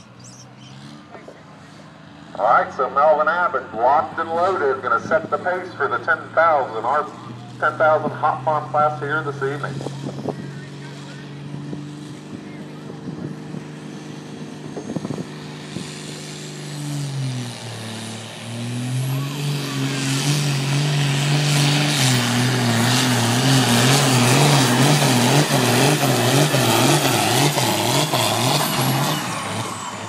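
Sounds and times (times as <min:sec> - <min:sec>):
tractor diesel engine: 0:00.0 - 0:30.0.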